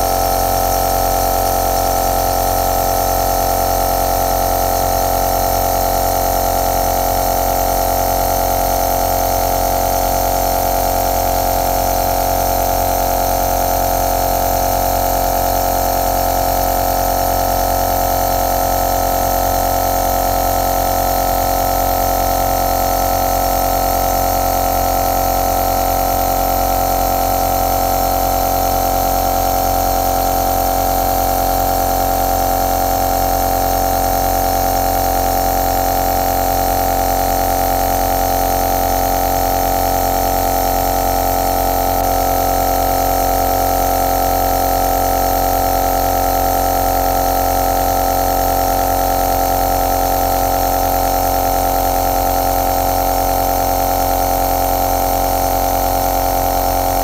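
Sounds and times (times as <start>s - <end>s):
nebulizer motor humming: 0.0s - 57.0s.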